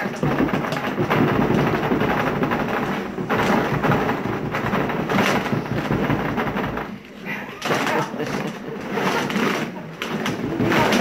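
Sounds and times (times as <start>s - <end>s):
plastic bottles clattering: 0.0s - 11.0s.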